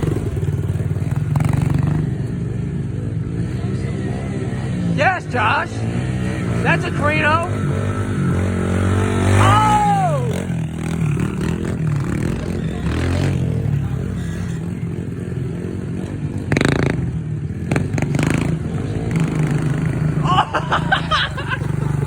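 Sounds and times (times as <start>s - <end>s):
motorbike engine at low revs: 0.0s - 22.0s.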